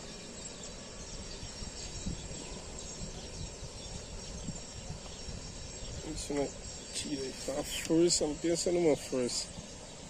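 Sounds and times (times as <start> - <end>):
crickets chirring: 0.0 - 10.0
wind rumbling on microphone: 0.0 - 10.0.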